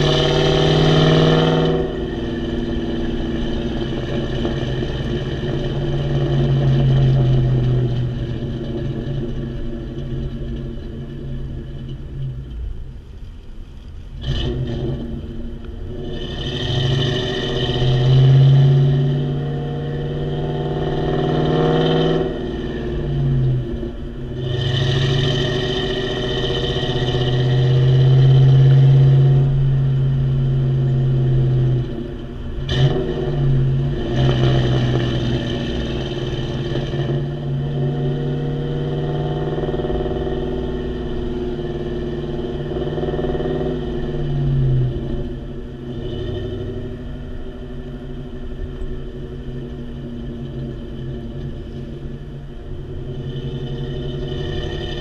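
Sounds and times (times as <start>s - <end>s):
car exhaust while driving: 0.0s - 55.0s.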